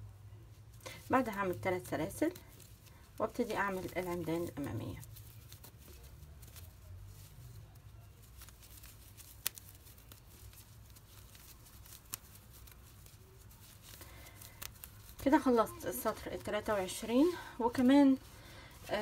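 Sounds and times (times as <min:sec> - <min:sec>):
low steady hum: 0:00.0 - 0:19.0
yarn rustling with crochet hook: 0:00.0 - 0:19.0.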